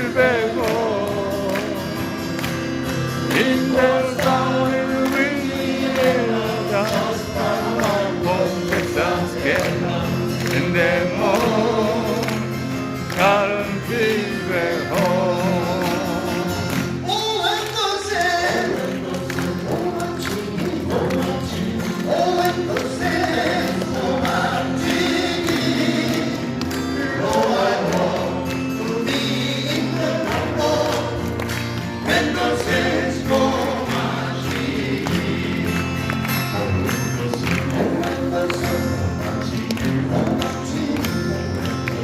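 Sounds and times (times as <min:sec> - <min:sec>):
acoustic guitar: 0:00.0 - 0:42.0
male vocal quartet singing: 0:00.0 - 0:42.0.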